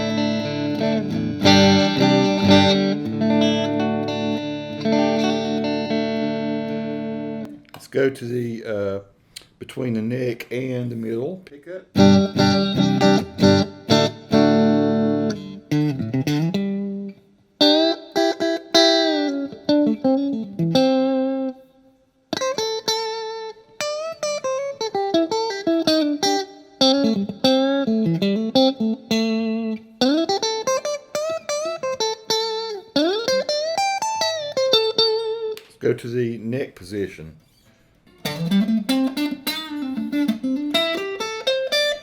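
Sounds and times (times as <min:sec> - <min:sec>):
clean electric guitar: 0:00.0 - 0:07.8, 0:11.8 - 0:35.8, 0:37.4 - 0:42.0.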